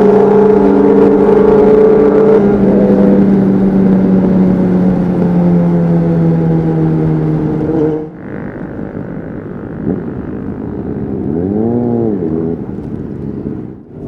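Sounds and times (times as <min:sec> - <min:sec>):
loud motorcycle engine: 0:00.0 - 0:14.0.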